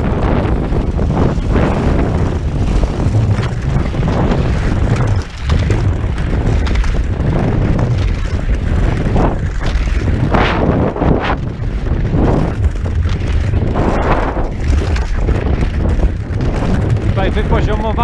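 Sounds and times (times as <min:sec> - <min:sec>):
skis gliding over crusty snow: 0:00.0 - 0:18.0
wind buffeting microphone: 0:00.0 - 0:18.0.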